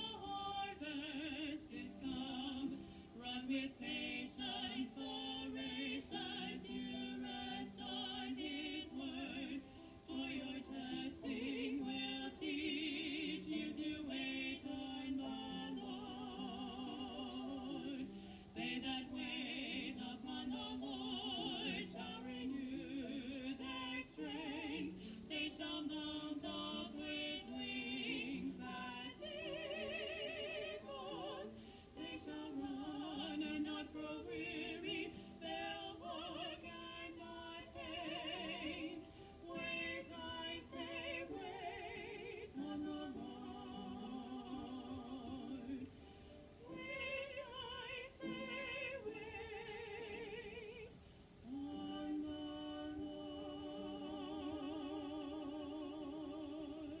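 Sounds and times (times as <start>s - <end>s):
women singing a duet: 0.0s - 57.0s.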